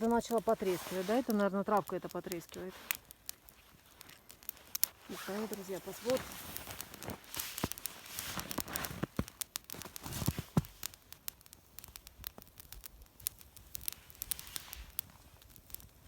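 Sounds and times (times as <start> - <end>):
dry grass crackling as it burns: 0.0 - 16.0.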